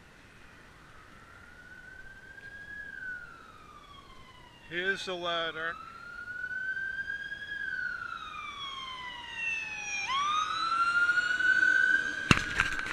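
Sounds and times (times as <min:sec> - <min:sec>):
fire truck siren wailing: 0:00.0 - 0:12.9.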